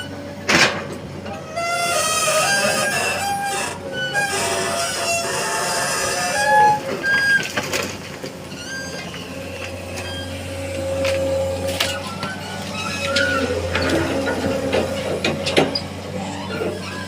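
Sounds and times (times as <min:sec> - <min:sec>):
excavator engine running: 0:00.0 - 0:17.0
squeals and creaks of excavator arm: 0:00.0 - 0:17.0
hydraulic whine: 0:01.3 - 0:07.6, 0:08.4 - 0:17.0.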